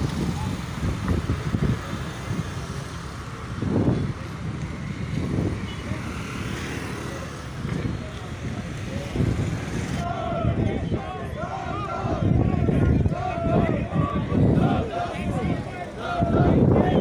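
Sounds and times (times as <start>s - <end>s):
cars and motorcycles passing: 0.0s - 17.0s
crowd voices: 0.0s - 17.0s.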